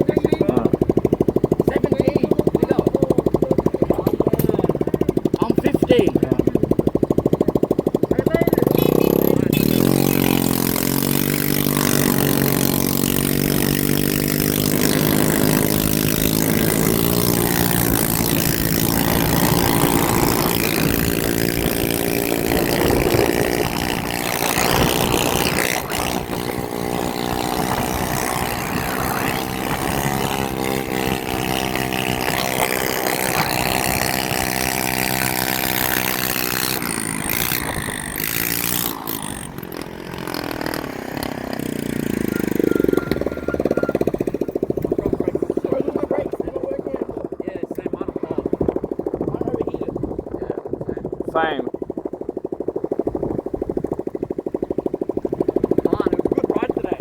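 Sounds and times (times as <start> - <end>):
motorcycle engine running: 0.0 - 57.0
road noise: 0.0 - 57.0
rushing wind: 9.4 - 43.0, 43.6 - 57.0.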